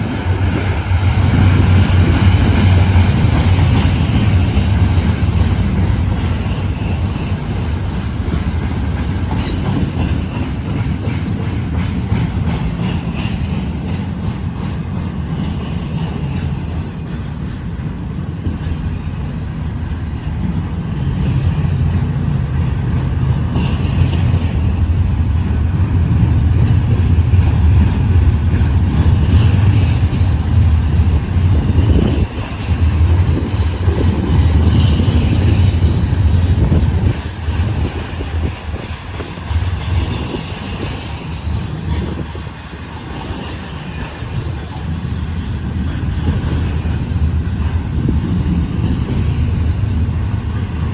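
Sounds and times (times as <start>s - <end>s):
wind on microphone: 0.0s - 13.5s, 19.9s - 50.9s
wheels clicking over rail joints: 0.0s - 17.4s, 21.1s - 50.8s
train wheels rumbling on rail: 0.0s - 50.9s.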